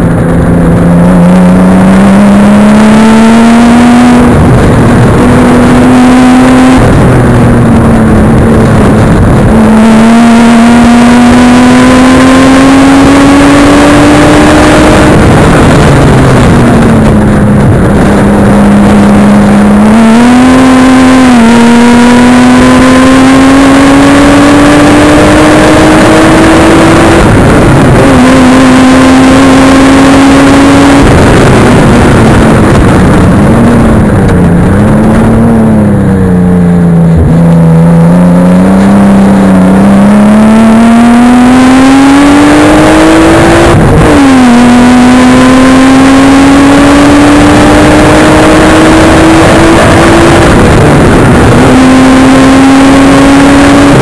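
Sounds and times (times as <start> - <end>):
car engine running hard: 0.0 - 54.0
constant rushing noise: 0.0 - 54.0.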